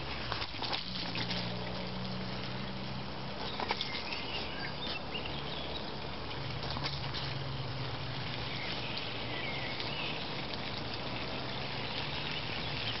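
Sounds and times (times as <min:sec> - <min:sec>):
low steady hum: 0:00.0 - 0:13.0
water running from hose: 0:00.0 - 0:13.0.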